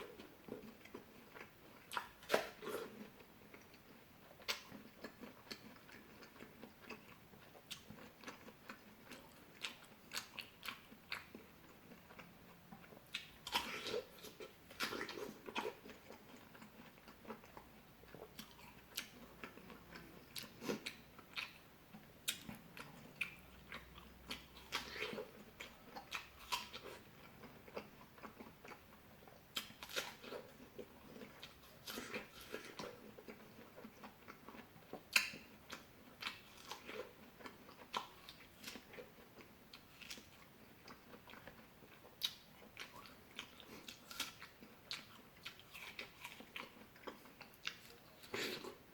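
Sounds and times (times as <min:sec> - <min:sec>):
crunchy chewing and biting fruit: 0:00.0 - 0:48.9.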